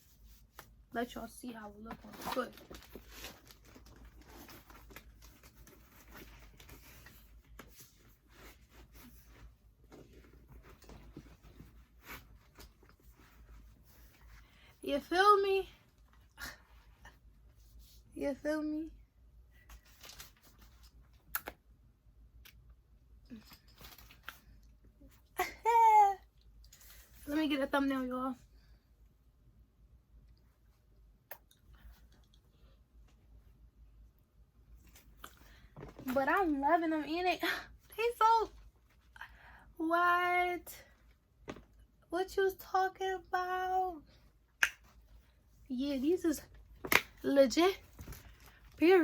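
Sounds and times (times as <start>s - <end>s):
faint rustling and ticks of handling: 0.0s - 21.3s, 22.6s - 49.0s.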